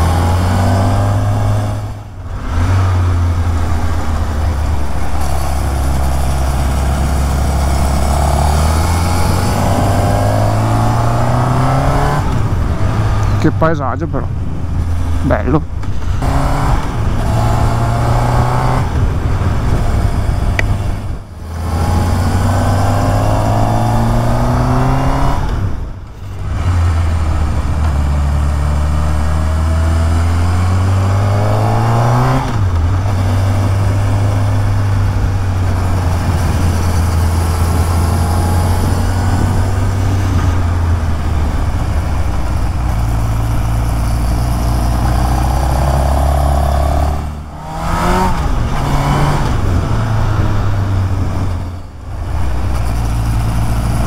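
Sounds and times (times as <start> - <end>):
motorcycle engine: 0.0 - 54.0
wind rush: 0.1 - 26.1, 29.5 - 54.0.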